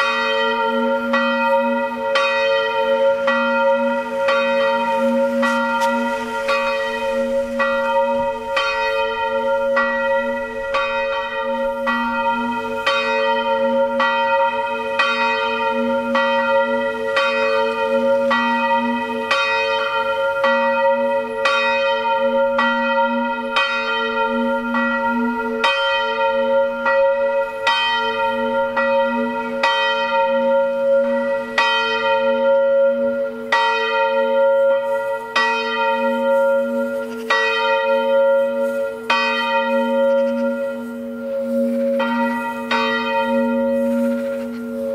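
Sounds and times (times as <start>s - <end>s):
church bells pealing: 0.0s - 44.9s.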